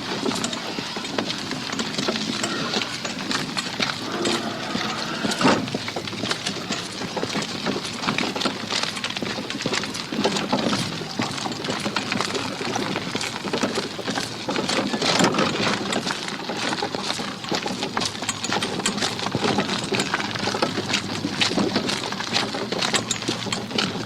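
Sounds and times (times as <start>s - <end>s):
cart wheels rattling on concrete: 0.0s - 24.0s.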